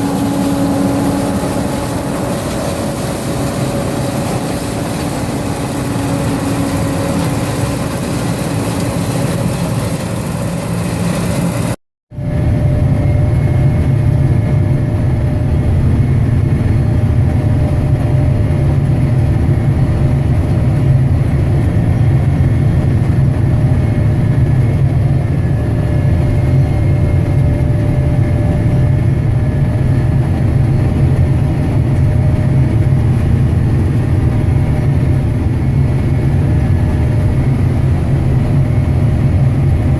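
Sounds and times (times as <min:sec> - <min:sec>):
deep low drone: 0:00.0 - 0:39.9
farm machinery engine running: 0:00.0 - 0:39.9.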